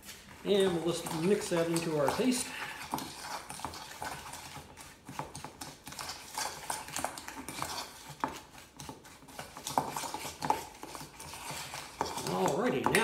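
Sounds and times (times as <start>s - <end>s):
fork scraping a metal bowl: 0.5s - 13.0s.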